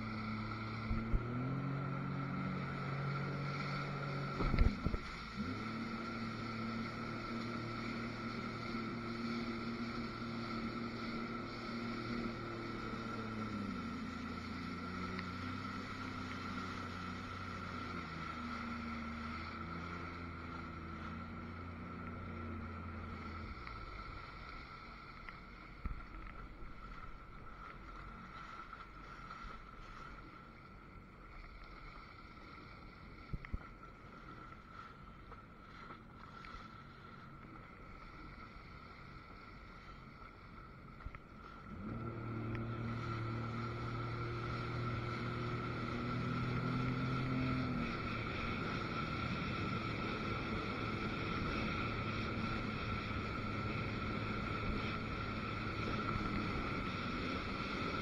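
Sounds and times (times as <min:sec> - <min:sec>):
jet ski engine idling: 0:00.0 - 0:58.0
small waves lapping: 0:00.0 - 0:58.0
wind: 0:00.0 - 0:58.0.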